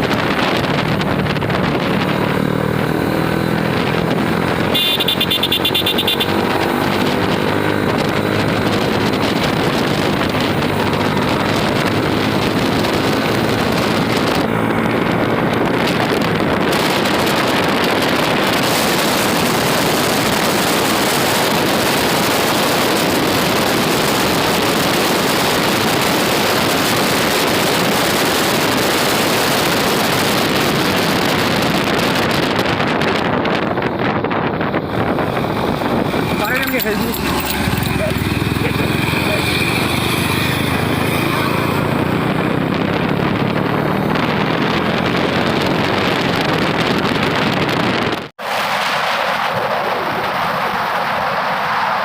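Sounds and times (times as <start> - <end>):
motorcycle engine running: 0.0 - 48.3
wind rushing over microphone: 0.0 - 52.0.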